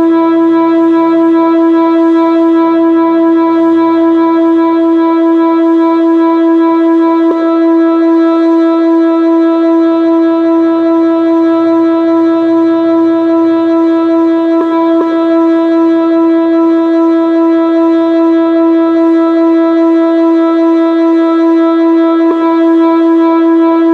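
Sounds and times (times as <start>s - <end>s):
warning siren steady tone: 0.0s - 23.9s.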